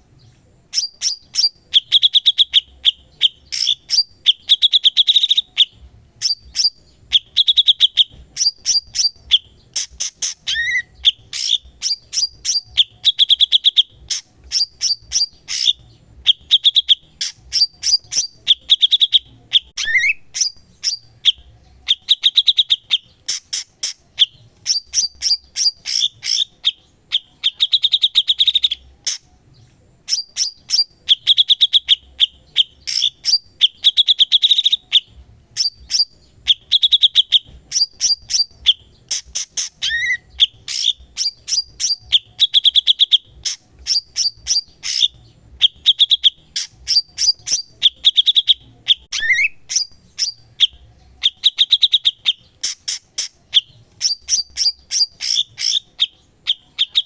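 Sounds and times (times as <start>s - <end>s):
songbird singing chips and trills: 0.0s - 57.0s.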